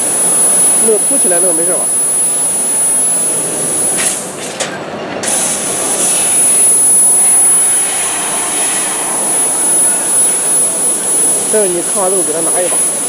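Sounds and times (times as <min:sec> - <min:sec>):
thin high whine: 0:00.0 - 0:13.0
workshop machinery noise: 0:00.0 - 0:13.0.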